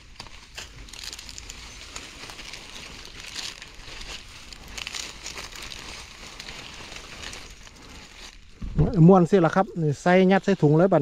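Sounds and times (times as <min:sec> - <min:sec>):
leaves crinkling and rustling: 0:00.0 - 0:11.0.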